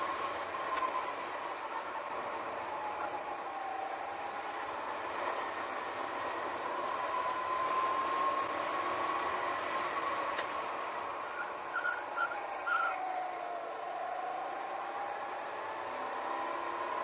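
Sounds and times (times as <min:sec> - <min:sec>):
go-kart engine whining: 0:00.0 - 0:17.0.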